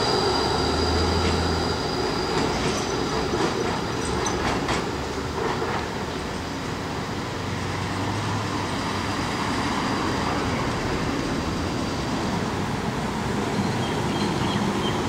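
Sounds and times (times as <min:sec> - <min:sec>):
city traffic noise: 0:00.0 - 0:15.0
tram running through a curve: 0:00.0 - 0:15.0.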